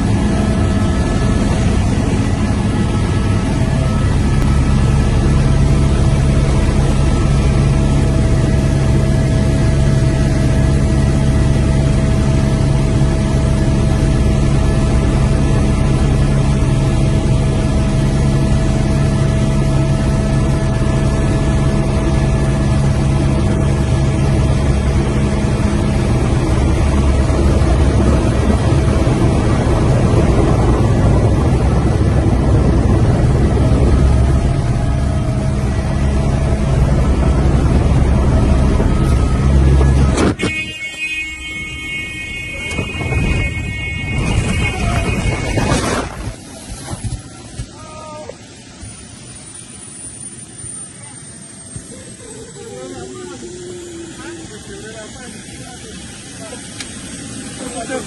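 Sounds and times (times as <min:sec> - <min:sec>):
helicopter engine and rotor drone: 0:00.0 - 0:58.0
steady whine: 0:00.0 - 0:58.0.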